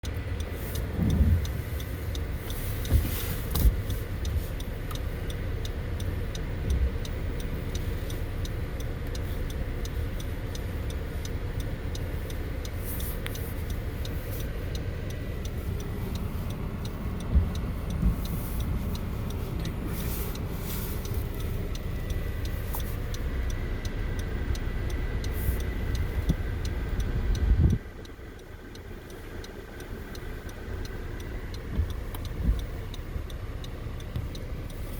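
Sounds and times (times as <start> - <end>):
car road and engine noise: 0.0 - 34.9
faint even ticking: 0.0 - 34.9.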